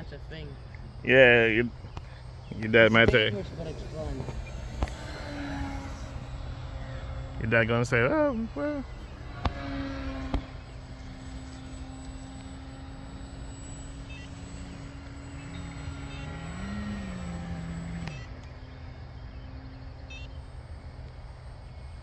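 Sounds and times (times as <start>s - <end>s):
model airplane motor humming: 0.0s - 22.0s
model airplane motor revving: 0.6s - 22.0s.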